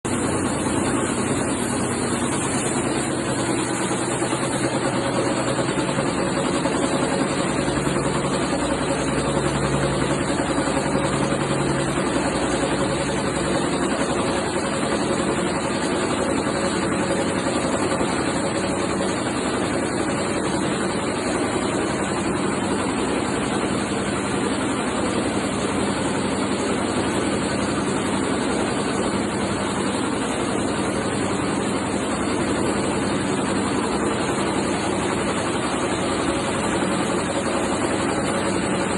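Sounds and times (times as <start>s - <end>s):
tablet press machine running: 0.1s - 38.9s.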